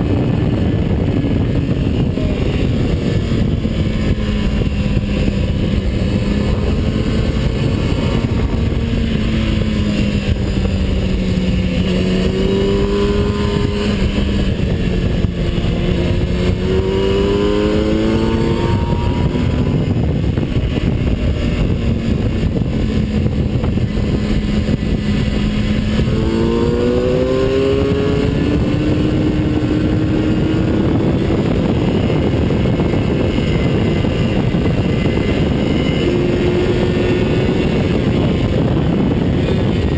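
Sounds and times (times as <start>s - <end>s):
race car engine accelerating: 0.0s - 39.9s
road rumble: 0.0s - 39.9s
wind noise: 0.0s - 39.9s.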